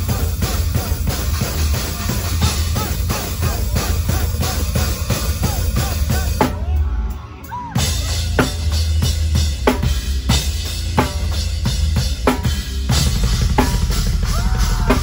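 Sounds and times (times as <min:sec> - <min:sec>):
heavy metal band music: 0:00.0 - 0:15.0
heavy metal drumming: 0:00.0 - 0:15.0.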